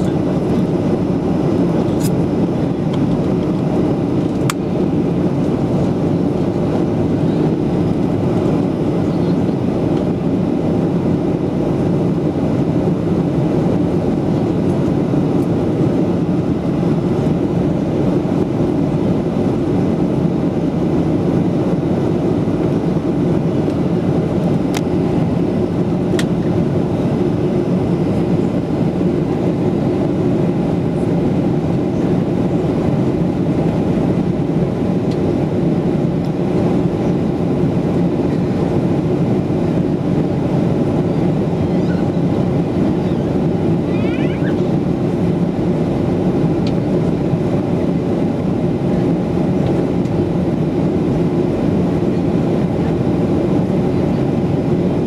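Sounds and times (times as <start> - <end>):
airplane cabin engine rush: 0.0 - 55.0.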